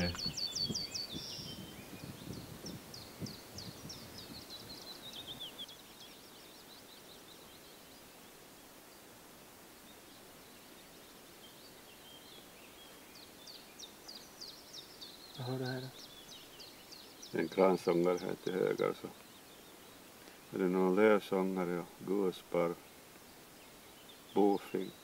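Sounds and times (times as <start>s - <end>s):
faint steady hiss: 0.0s - 25.0s
songbirds singing: 0.0s - 25.0s.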